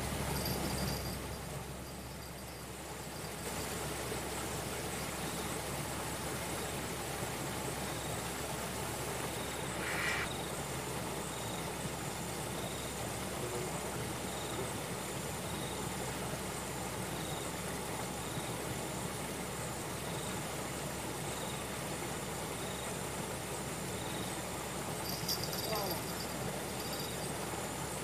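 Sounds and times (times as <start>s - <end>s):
constant hiss: 0.0s - 28.0s
insect chirping: 0.3s - 13.2s, 14.0s - 19.2s, 19.8s - 28.0s.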